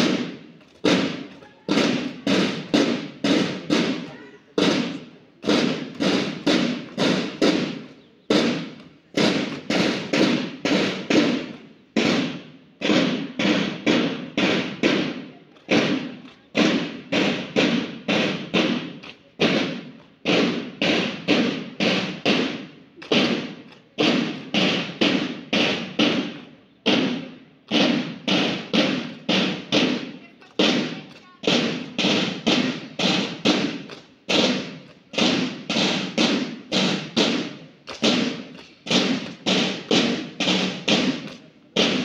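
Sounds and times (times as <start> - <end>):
snare drums marching cadence: 0.0 - 42.0.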